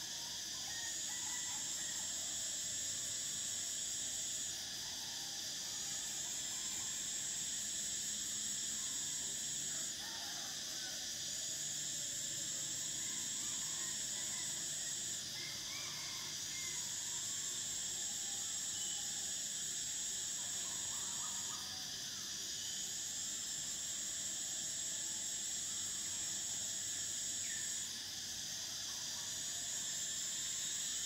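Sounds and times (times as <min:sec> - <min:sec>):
cicadas buzzing chorus: 0:00.0 - 0:31.0.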